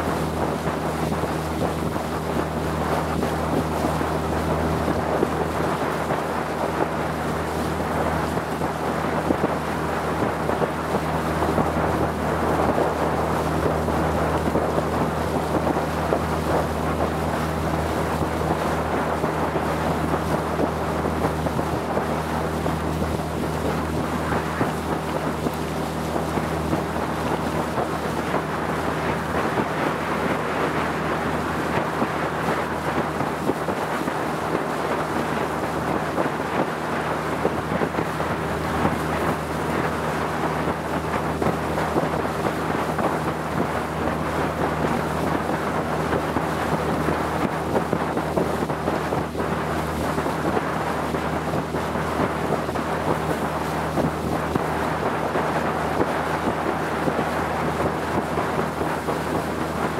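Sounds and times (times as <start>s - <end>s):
motorboat engine droning: 0.0s - 59.9s
water rushing along hull: 0.0s - 59.9s
wind: 0.0s - 59.9s.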